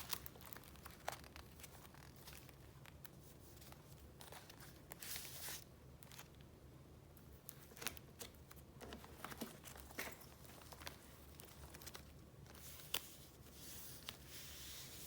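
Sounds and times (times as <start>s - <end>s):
paper rustling: 0.0s - 6.3s, 7.5s - 15.0s.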